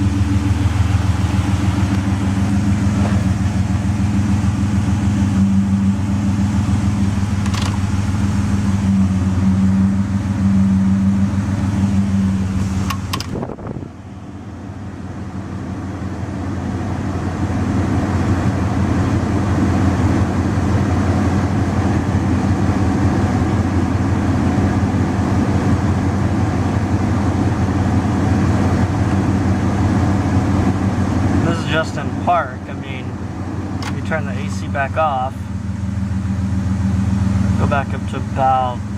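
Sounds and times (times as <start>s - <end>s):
car engine idling roughly: 0.0s - 38.9s.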